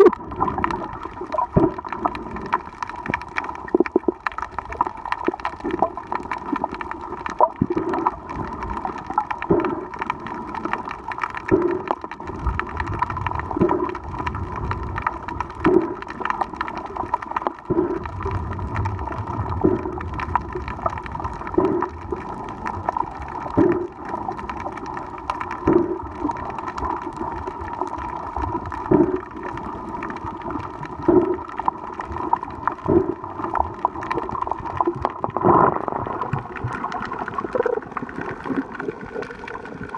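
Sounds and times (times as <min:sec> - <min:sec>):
muffled underwater hum: 0:00.0 - 0:39.9.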